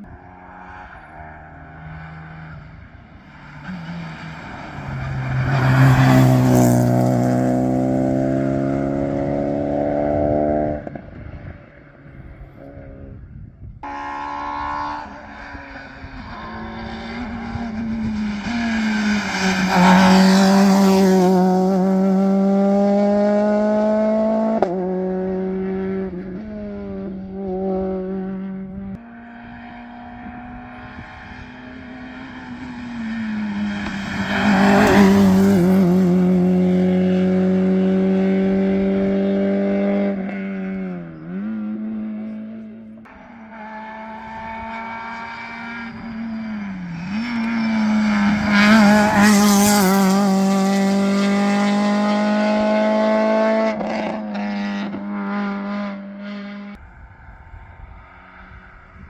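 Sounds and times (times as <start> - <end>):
rally car engines at high revs: 0.0 - 13.0, 13.8 - 56.8.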